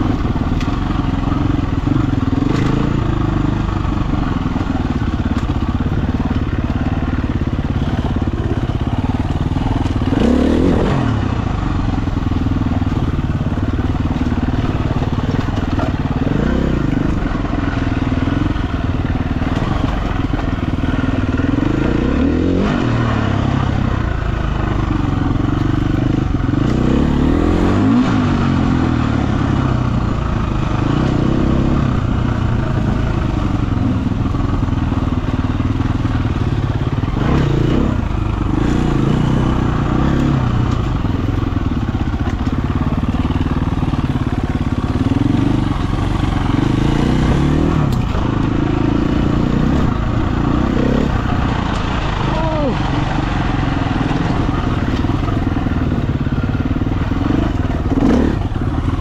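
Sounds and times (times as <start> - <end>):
dirt bike engine revving: 0.0 - 34.2, 36.2 - 59.0.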